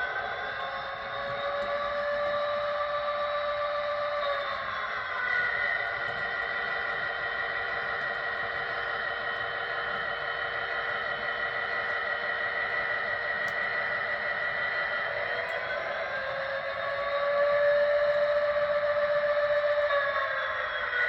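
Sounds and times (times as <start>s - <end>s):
model locomotive running: 0.0s - 21.0s.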